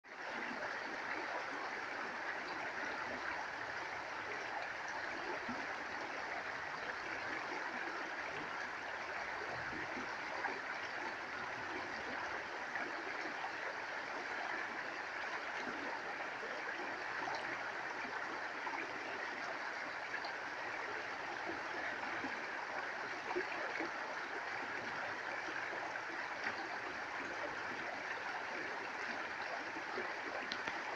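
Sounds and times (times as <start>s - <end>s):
stream rushing over stones: 0.1s - 30.9s.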